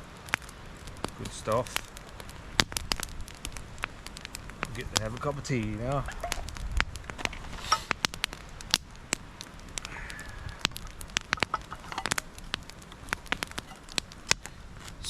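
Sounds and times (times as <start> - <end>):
campfire crackling and snapping: 0.0 - 15.0.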